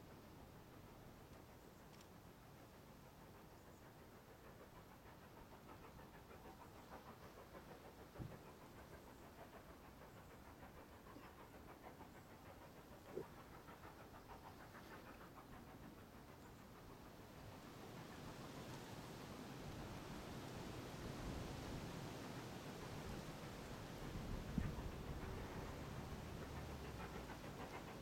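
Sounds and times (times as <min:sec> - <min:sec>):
distant steam locomotive exhaust beats: 0:00.0 - 0:28.0.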